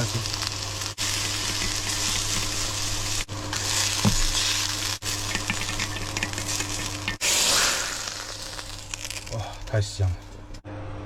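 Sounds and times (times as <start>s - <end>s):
food sizzling in hot oil: 0.0s - 9.4s.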